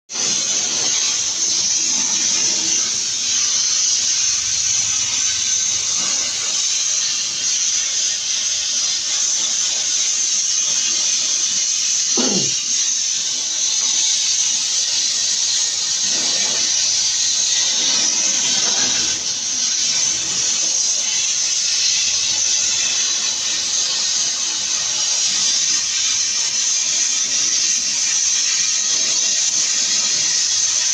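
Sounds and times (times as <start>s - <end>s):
welding torch hissing: 0.1s - 30.9s.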